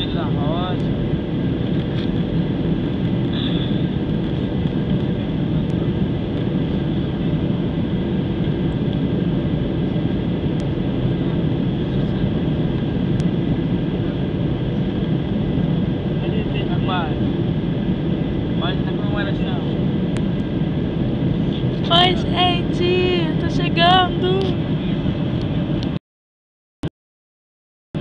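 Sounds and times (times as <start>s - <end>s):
airliner cabin engine noise: 0.0s - 26.0s.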